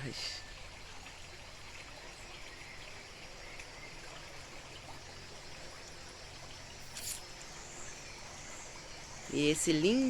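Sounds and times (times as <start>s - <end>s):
cicadas buzzing: 0.0s - 10.0s.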